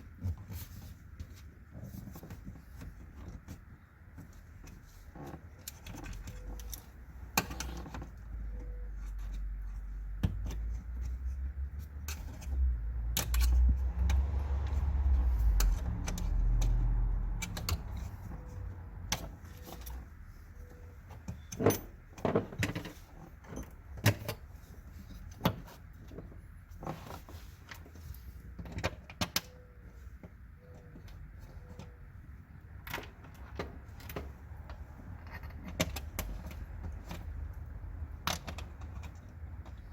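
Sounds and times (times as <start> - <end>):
low rumble of handling: 0.0 - 39.9.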